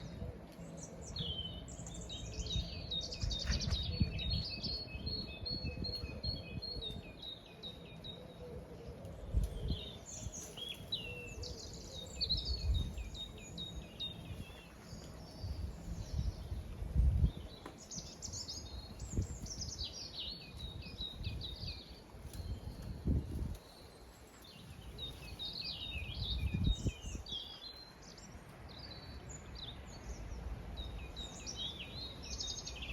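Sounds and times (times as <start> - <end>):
songbirds singing: 0.0 - 32.9.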